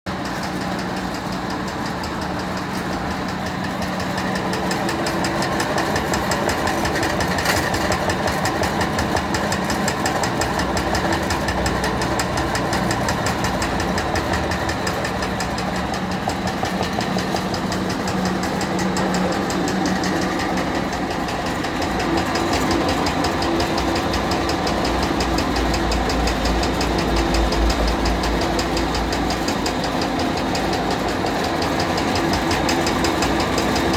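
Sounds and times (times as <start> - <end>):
food-cutting machine running: 0.1 - 33.9.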